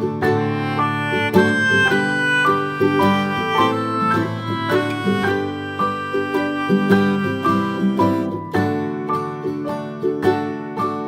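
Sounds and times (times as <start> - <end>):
bright melody over plucked strings: 0.0 - 11.0.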